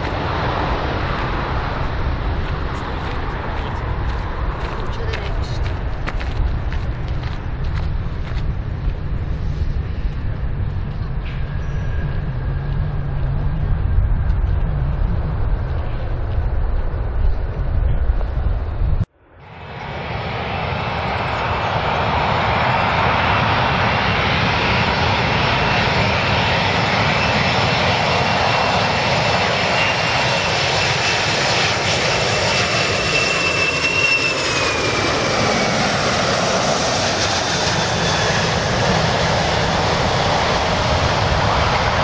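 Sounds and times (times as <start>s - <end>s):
jet airliner roar: 0.0s - 42.0s.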